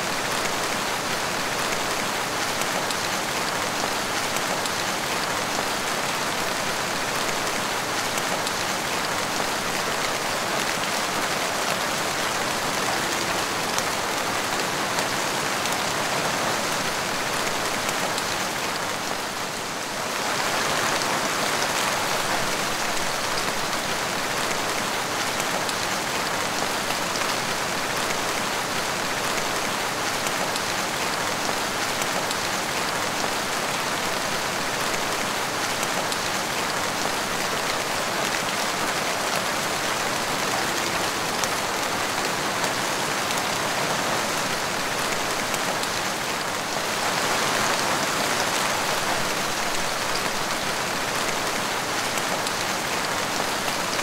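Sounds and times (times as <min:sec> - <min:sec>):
rain splashing on tiled floor: 0:00.0 - 0:54.0.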